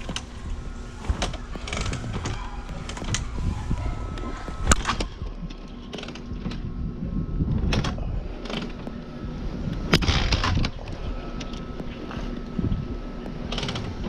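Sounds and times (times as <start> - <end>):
low uneven rumble: 0.0 - 14.0.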